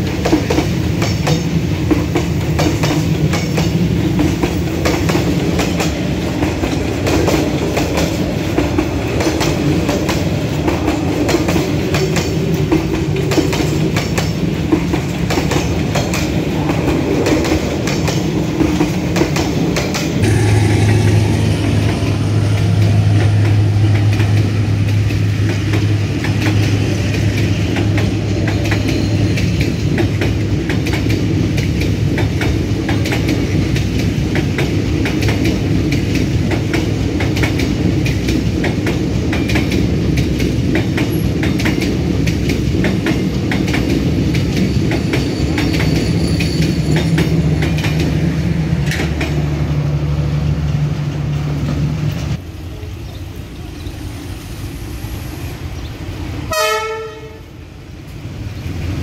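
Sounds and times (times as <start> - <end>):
low train hum: 0.0 - 59.0.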